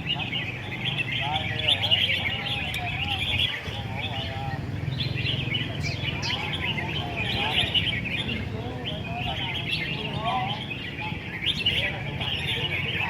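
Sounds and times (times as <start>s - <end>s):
birds chirping and warbling: 0.0s - 13.0s.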